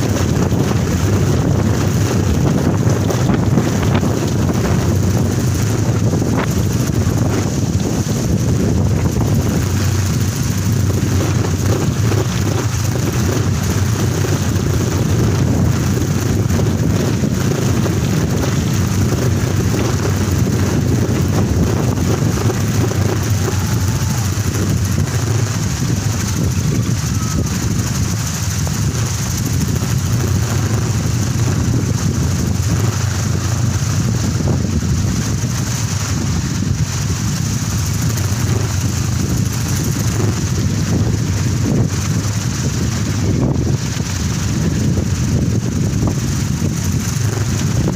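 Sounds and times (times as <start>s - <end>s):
wind propeller droning: 0.0s - 47.9s
wind rushing over microphone: 0.0s - 47.9s.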